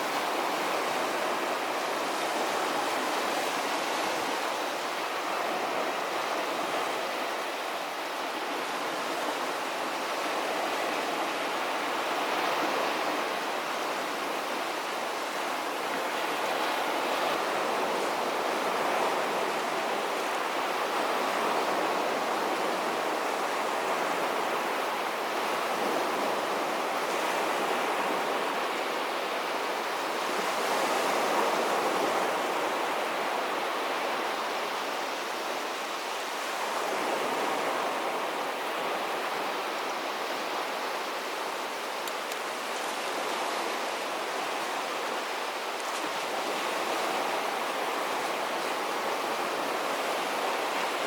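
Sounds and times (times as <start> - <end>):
sea waves washing onto beach: 0.0 - 51.0.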